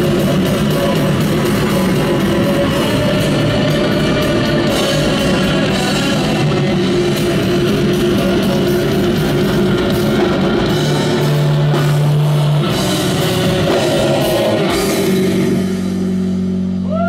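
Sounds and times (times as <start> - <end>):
distorted guitars: 0.0 - 17.0
drums: 0.0 - 17.0.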